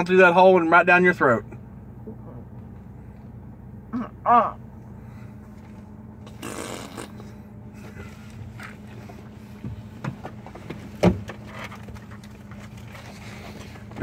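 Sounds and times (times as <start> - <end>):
car idling: 0.0 - 14.0.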